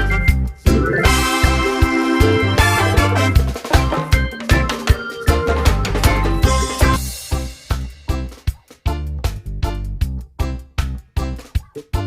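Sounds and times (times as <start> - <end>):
upbeat music with bass line: 0.0 - 12.0.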